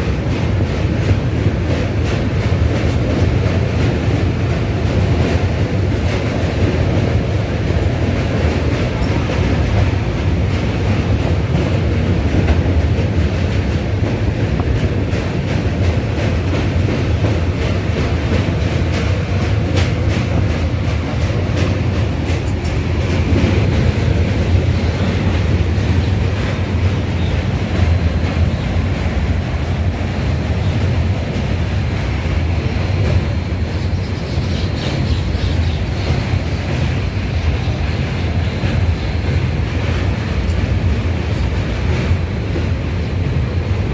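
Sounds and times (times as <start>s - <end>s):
train rumbling on rails: 0.0s - 43.9s
wheels clacking over rail joints: 0.0s - 43.9s.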